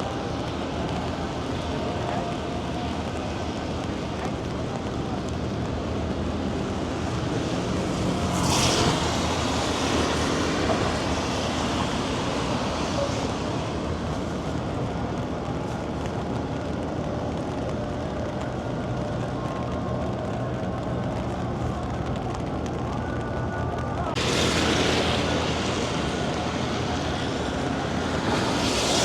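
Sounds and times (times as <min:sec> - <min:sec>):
traffic on wet roads: 0:00.0 - 0:29.0.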